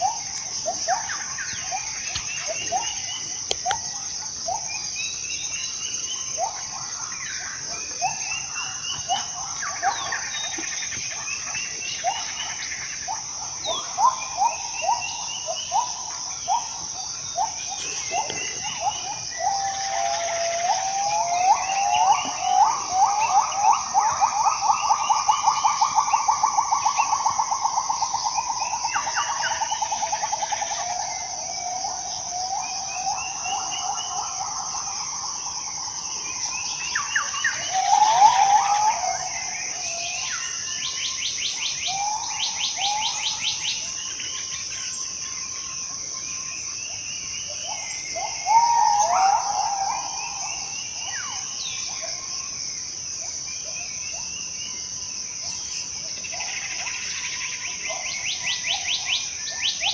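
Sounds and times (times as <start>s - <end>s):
birds calling: 0.0s - 59.9s
insects droning: 0.0s - 59.9s.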